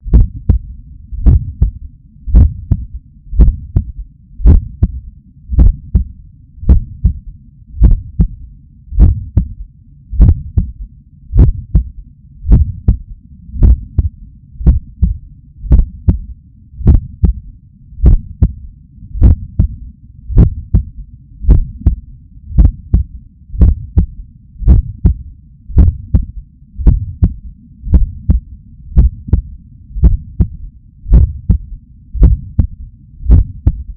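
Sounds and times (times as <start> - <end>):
heartbeat through stethoscope: 0.0 - 33.9.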